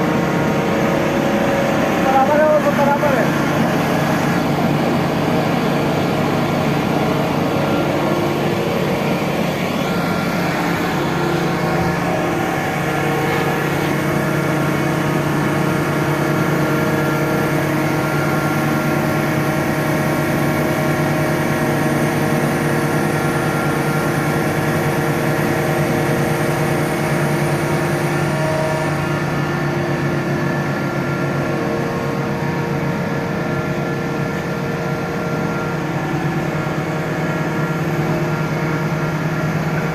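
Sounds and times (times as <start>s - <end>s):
crane diesel engine running: 0.0s - 39.9s.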